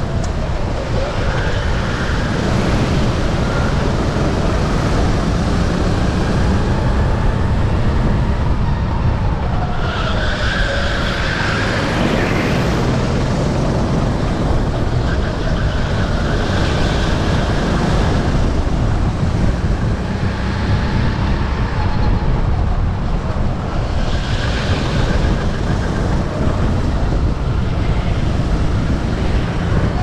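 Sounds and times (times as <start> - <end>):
kart engine running hard: 0.0 - 30.0.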